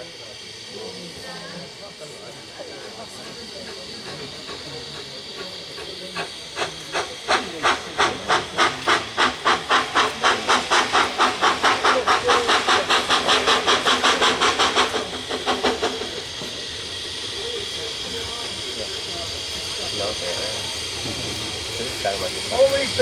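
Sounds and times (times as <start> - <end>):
steam hissing: 0.0 - 23.0
steam locomotive chuffing: 0.0 - 23.0.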